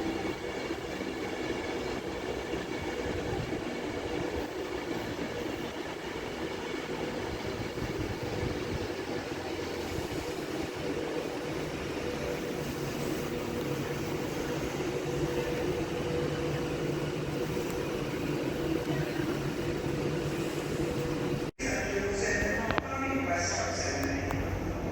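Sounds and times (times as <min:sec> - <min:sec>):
train humming: 0:00.0 - 0:24.9.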